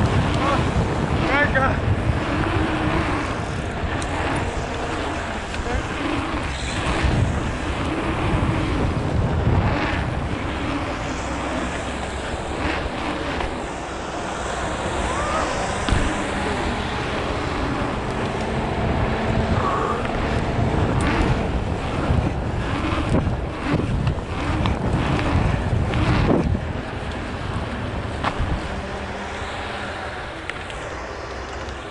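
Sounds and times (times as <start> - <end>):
rumbling tyre noise: 0.0 - 31.9
wind buffeting microphone: 0.0 - 31.9.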